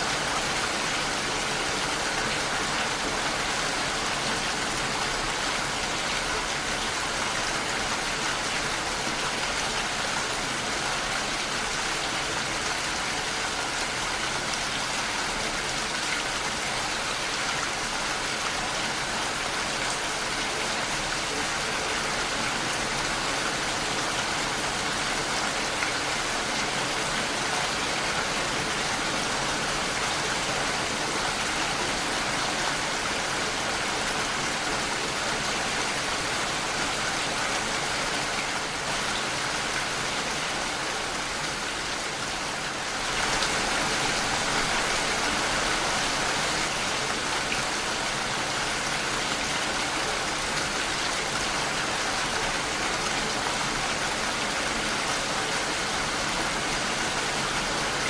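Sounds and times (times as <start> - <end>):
rain against a window: 0.0 - 58.0.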